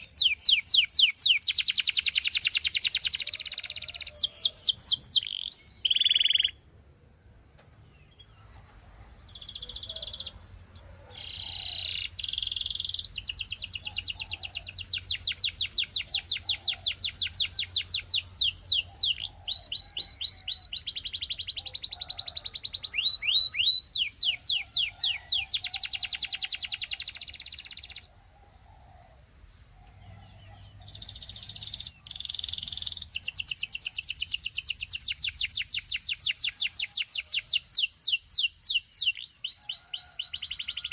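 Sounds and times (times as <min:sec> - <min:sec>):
canary singing trills: 0:00.0 - 0:06.7, 0:07.8 - 0:28.2, 0:29.7 - 0:40.9.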